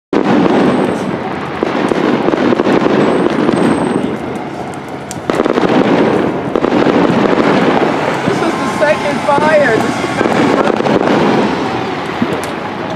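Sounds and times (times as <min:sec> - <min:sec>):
dry grass burning crackling: 0:00.2 - 0:12.9.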